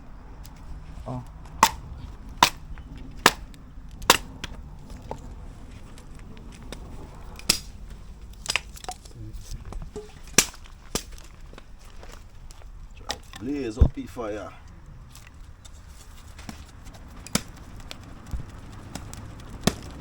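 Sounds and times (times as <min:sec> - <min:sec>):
low steady rumble: 0:00.0 - 0:20.0
wood fire crackling and popping: 0:00.3 - 0:20.0.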